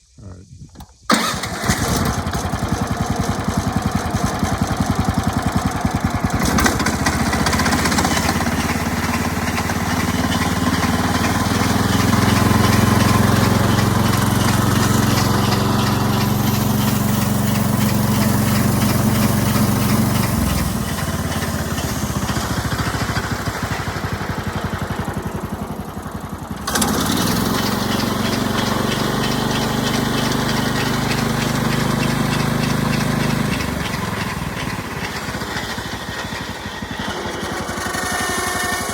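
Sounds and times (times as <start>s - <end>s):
band saw motor hum: 2.3s - 38.9s.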